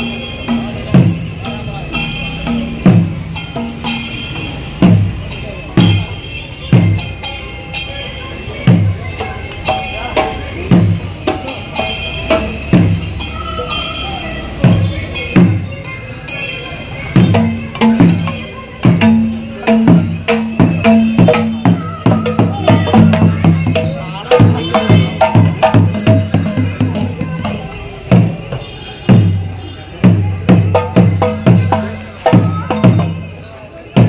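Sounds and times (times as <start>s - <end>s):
ringing cymbals: 0.0s - 34.0s.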